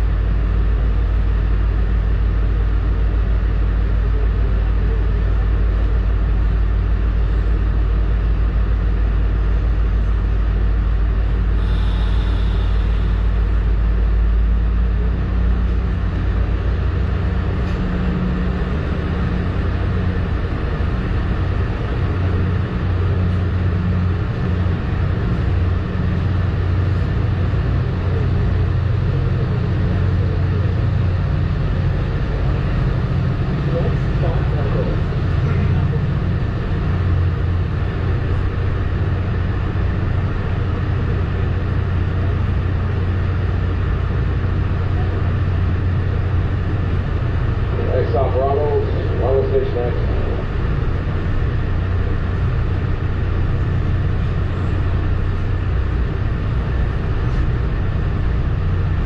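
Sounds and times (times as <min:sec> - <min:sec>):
train rumble inside coach: 0:00.0 - 0:59.0.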